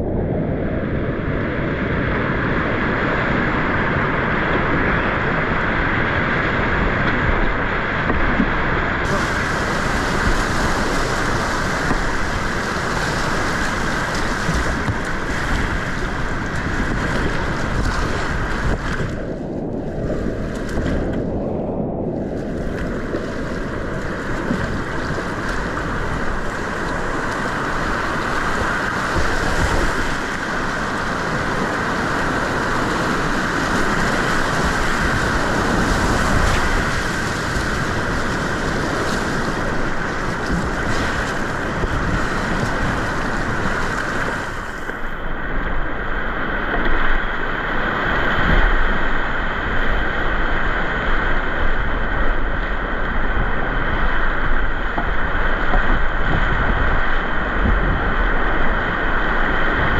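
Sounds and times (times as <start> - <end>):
whitewater rapids rushing: 2.2 - 21.2, 22.2 - 59.9.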